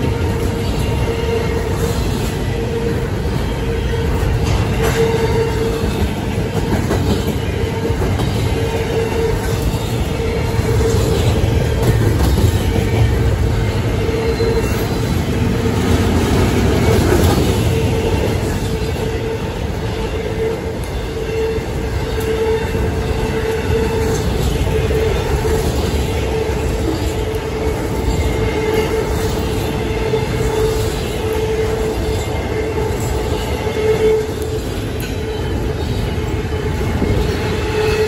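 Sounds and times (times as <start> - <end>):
freight train wheels on rail: 0.0 - 38.0.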